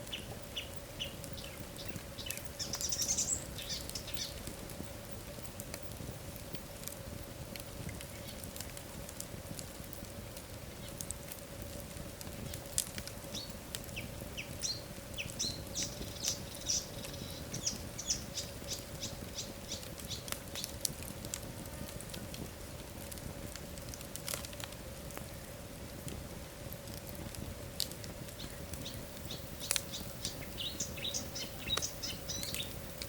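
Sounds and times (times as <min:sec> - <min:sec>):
faint steady hum: 0:00.0 - 0:33.0
wood fire crackling and popping: 0:00.0 - 0:33.0.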